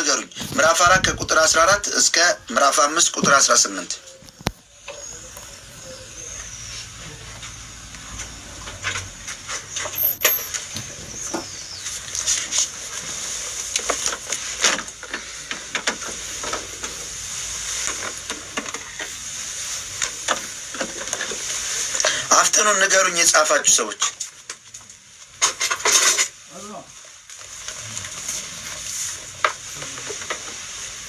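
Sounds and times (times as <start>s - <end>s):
background hiss: 0.0s - 31.0s.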